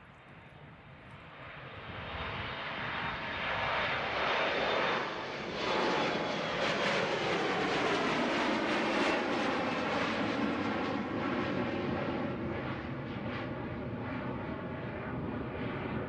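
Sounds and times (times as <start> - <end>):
jet engines roaring: 2.5 - 15.6.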